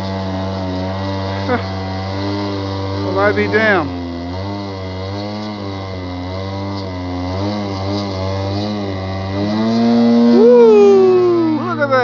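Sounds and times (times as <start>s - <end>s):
model airplane engine: 0.0s - 12.0s.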